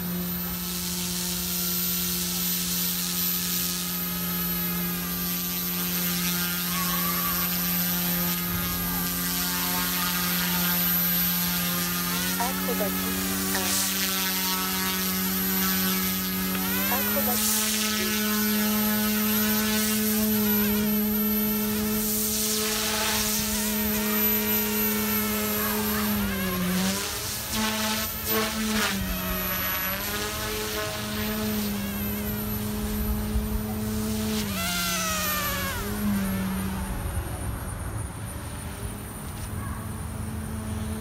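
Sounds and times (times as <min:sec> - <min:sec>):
high whining tones: 0:00.0 - 0:39.4
rc helicopter rotor buzz: 0:00.0 - 0:41.0.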